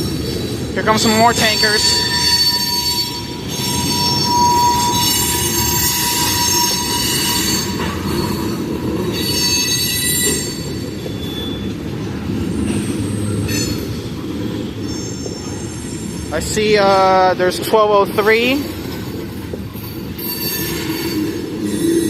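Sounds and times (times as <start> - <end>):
train rumble: 0.0 - 22.0
train wheels squealing on rail: 0.0 - 22.0.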